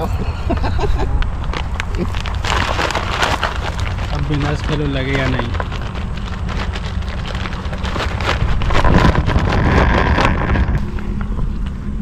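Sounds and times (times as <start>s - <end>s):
wind buffeting microphone: 0.0s - 12.0s
plastic sack and net rustling: 0.9s - 10.8s.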